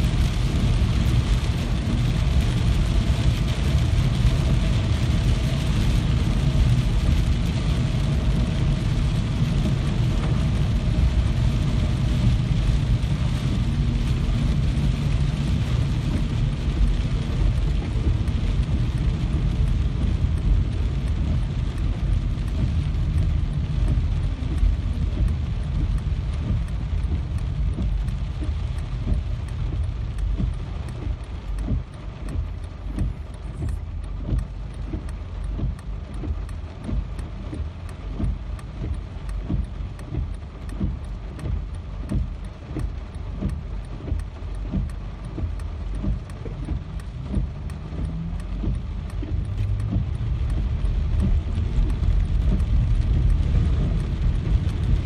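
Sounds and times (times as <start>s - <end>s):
steady rain with deep rumble: 0.0s - 55.0s.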